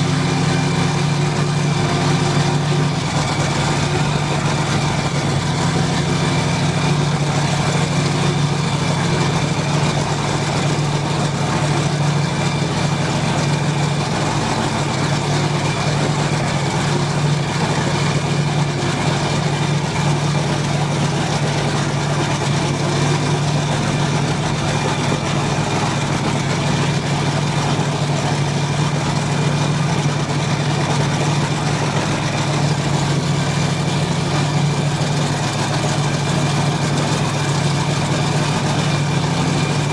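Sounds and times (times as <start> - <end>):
powerboat engines idling: 0.0 - 39.9.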